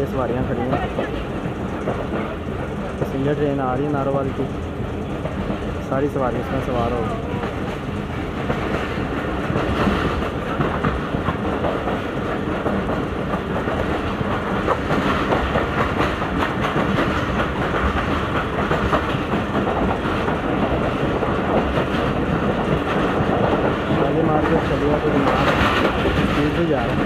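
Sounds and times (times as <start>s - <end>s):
train rumbling on rails: 0.0s - 27.0s
wheels clickety-clack: 0.0s - 27.0s.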